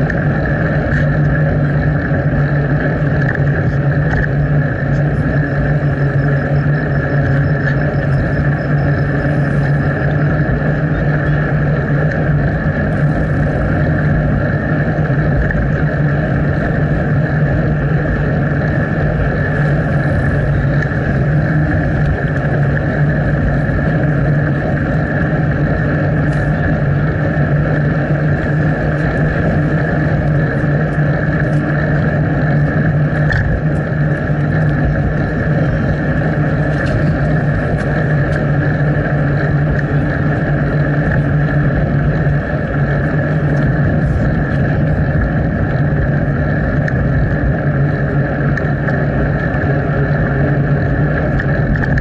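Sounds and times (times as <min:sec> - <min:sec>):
wind rush while cycling: 0:00.0 - 0:52.0.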